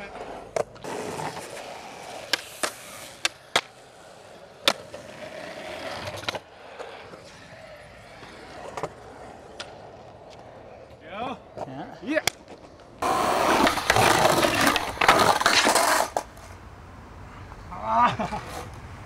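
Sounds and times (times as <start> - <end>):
skateboard clacking on ground: 0.0 - 3.8, 4.5 - 16.6
skateboard wheels rolling on concrete: 0.0 - 19.0.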